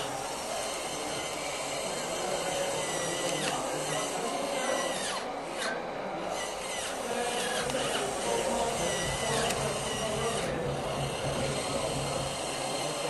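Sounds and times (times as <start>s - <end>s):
electric motors whirring: 0.0s - 13.0s
faint voices: 0.0s - 13.0s.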